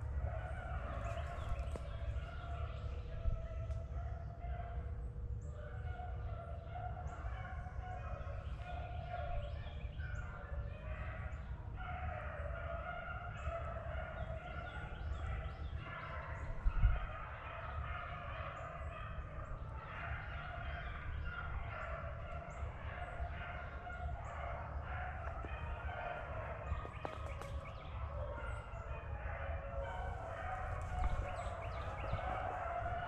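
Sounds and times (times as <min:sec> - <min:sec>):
dogs baying and howling: 0:00.0 - 0:33.0.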